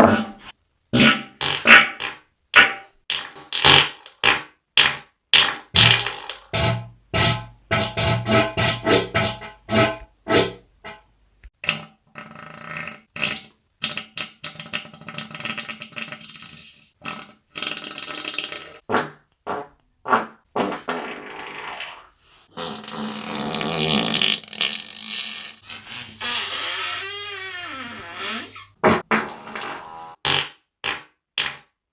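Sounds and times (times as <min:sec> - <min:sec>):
human farts: 0:00.0 - 0:06.5, 0:11.6 - 0:16.2, 0:17.0 - 0:31.7.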